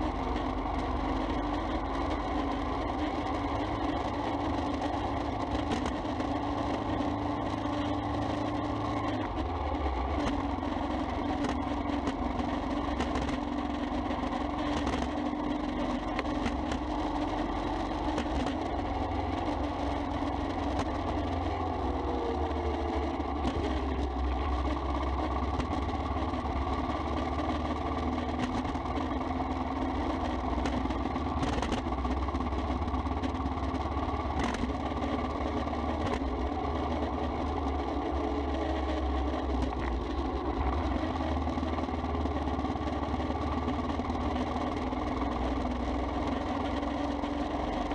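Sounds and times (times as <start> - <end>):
motorcycle engine running: 0.0 - 47.9
road and wind noise: 0.0 - 47.9.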